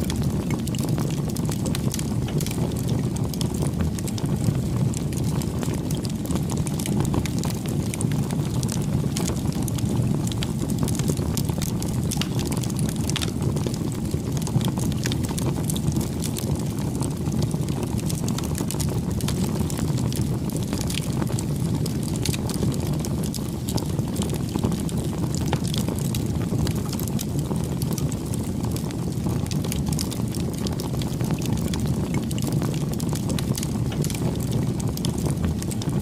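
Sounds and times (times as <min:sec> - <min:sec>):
fire rumbling: 0:00.0 - 0:36.0
wood crackling and popping: 0:00.0 - 0:36.0.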